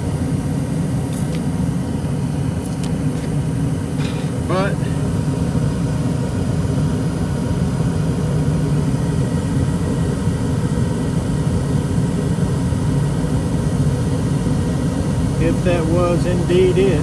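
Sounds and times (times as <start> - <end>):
gas furnace rumbling: 0.0 - 17.0.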